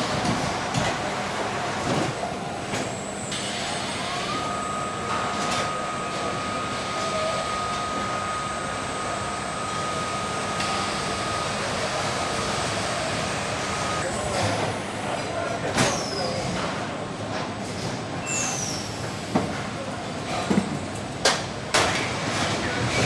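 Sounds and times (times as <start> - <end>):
factory machinery hissing: 0.0 - 17.0, 17.8 - 20.6, 21.6 - 23.0.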